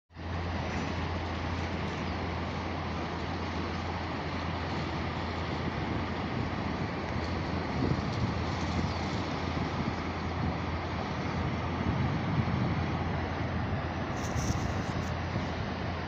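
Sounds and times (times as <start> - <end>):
floodwater rushing: 0.2 - 16.0.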